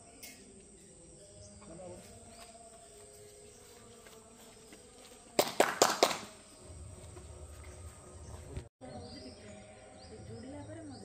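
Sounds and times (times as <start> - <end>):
faint insects: 0.0 - 11.0.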